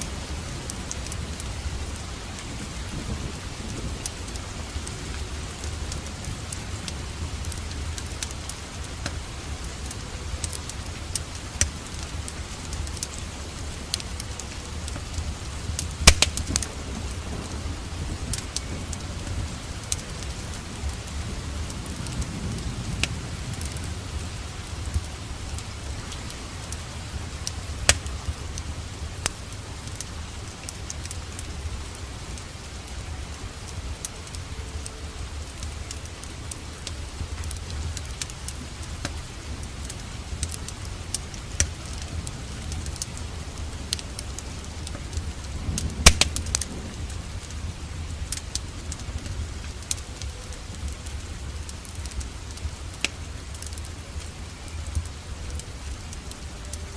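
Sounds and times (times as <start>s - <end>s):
steady rain: 0.0s - 56.9s
wood fire crackling: 0.0s - 56.9s.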